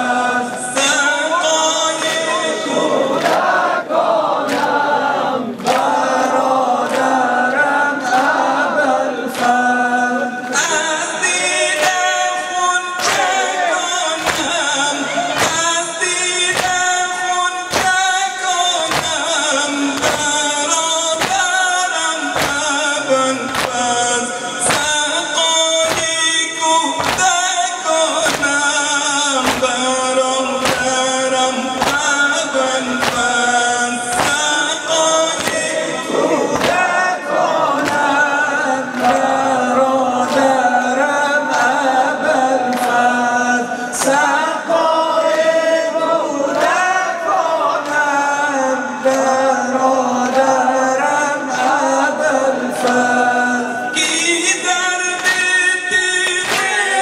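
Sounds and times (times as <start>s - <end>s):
congregation singing: 0.0s - 57.0s
man singing a lament into a microphone: 0.0s - 57.0s
rhythmic chest beating: 0.0s - 57.0s.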